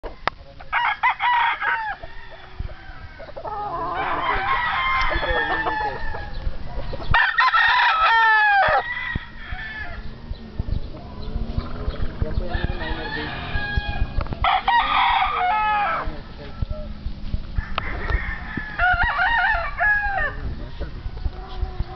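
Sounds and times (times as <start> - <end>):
young roosters crowing: 0.0 - 16.6, 17.6 - 21.9
chickens clucking: 1.7 - 21.9.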